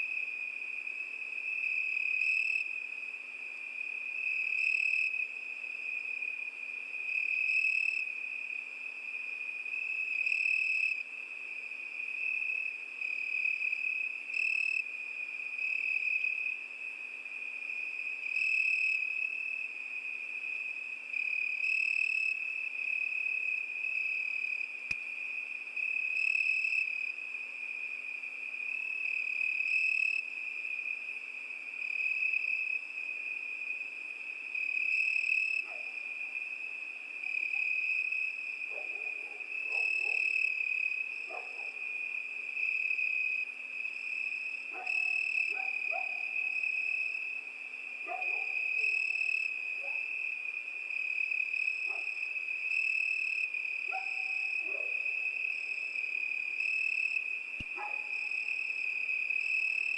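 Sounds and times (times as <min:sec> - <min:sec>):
crickets trilling: 0:11.6 - 0:59.9.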